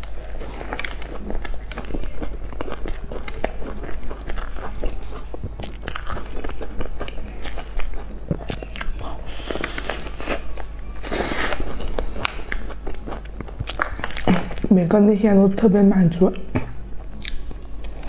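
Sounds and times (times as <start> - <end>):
crunchy chewing mouth sounds: 0.0 - 14.7, 17.0 - 18.0.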